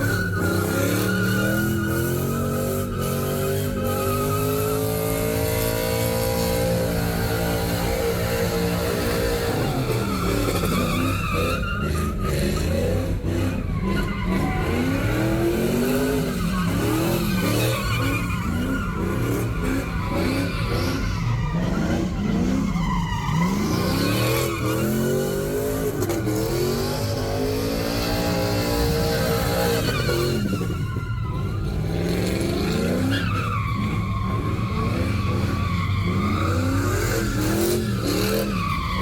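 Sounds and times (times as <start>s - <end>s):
car engine revving hard: 0.0s - 30.8s, 31.4s - 39.0s
tyres squealing: 0.0s - 31.8s.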